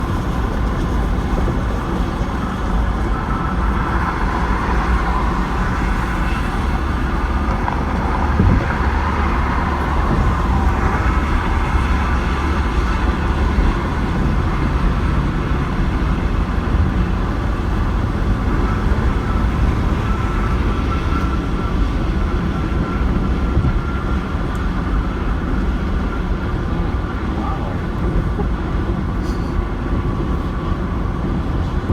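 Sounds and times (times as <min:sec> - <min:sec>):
road traffic rumble: 0:00.0 - 0:31.9.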